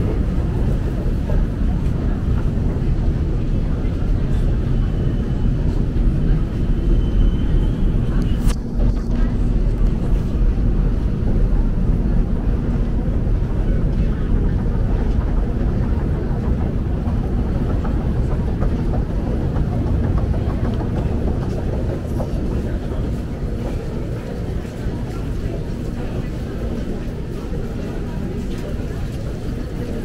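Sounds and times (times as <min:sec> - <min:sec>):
crowd murmur: 0:00.0 - 0:30.0
escalator rumble: 0:00.0 - 0:30.0.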